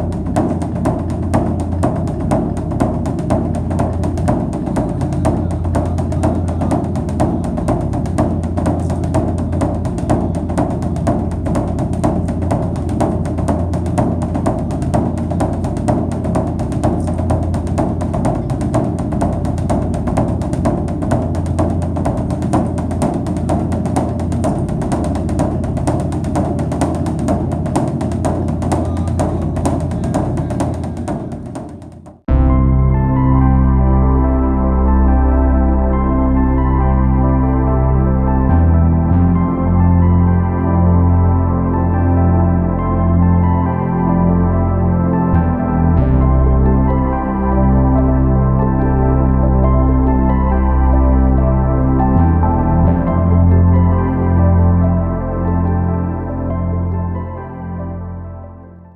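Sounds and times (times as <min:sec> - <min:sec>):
drum-driven background music: 0:00.0 - 0:43.8, 0:45.1 - 0:54.8.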